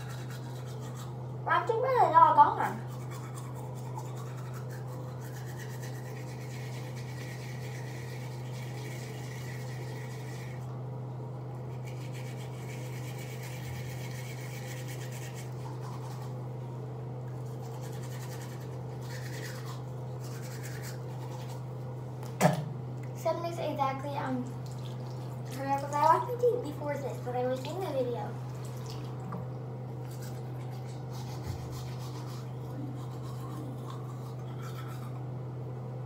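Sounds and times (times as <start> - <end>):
toothbrush scrubbing teeth: 0.0 - 10.7, 11.5 - 16.6, 17.3 - 21.9, 24.6 - 29.1, 30.0 - 35.3
steady low hum: 0.0 - 36.0.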